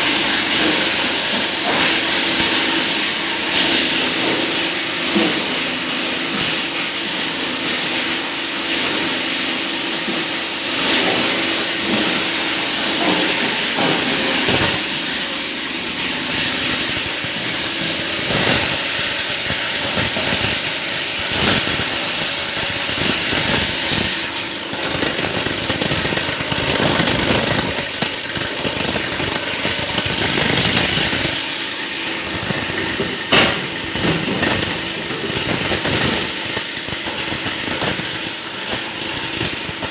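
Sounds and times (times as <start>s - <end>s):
plastic grinder running: 0.0s - 39.9s.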